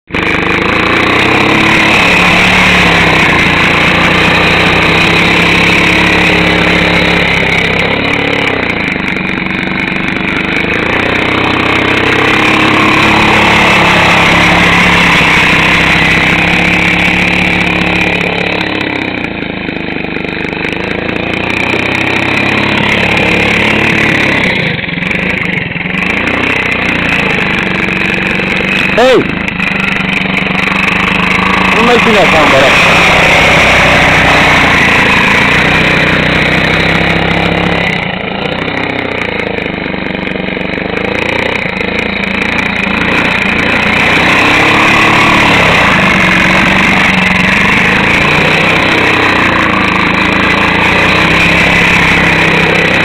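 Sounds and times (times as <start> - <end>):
quad bike engine revving: 0.0 - 53.0.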